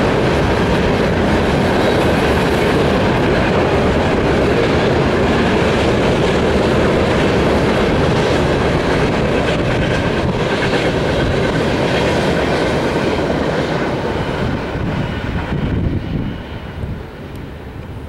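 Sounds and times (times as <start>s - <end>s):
freight train rolling past: 0.0s - 18.0s
steel wheels rumbling on rail: 0.0s - 18.0s.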